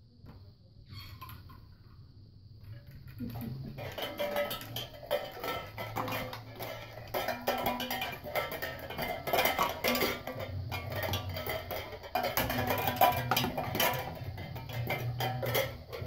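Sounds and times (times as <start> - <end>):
metal cans and wind chime clattering: 2.8 - 16.0.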